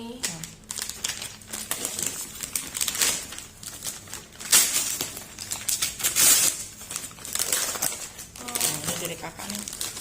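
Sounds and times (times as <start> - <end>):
gift wrapping crinkling: 0.1 - 10.0.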